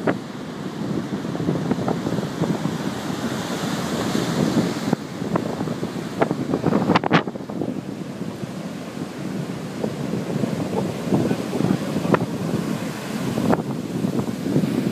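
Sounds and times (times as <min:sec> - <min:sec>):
surf breaking on beach: 0:00.0 - 0:14.9
wind buffeting microphone: 0:00.0 - 0:14.9.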